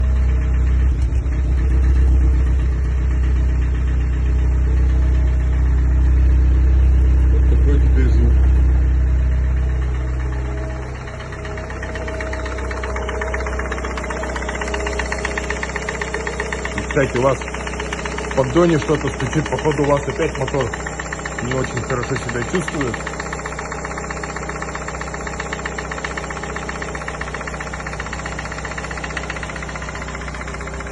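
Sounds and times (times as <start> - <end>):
car engine knocking: 0.0 - 30.9.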